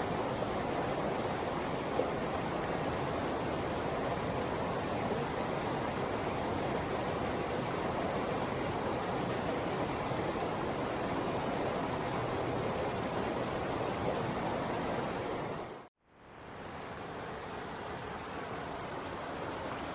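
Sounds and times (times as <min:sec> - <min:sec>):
river flowing: 0:00.0 - 0:19.9.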